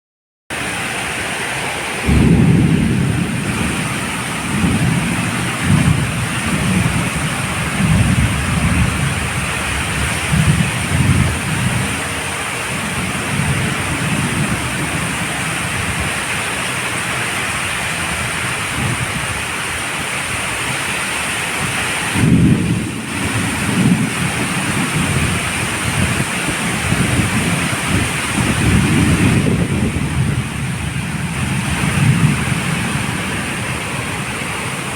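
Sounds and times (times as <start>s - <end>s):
steady rain: 0.5s - 34.9s
low rumbling thunder: 2.0s - 16.6s, 17.6s - 19.4s, 21.6s - 34.9s.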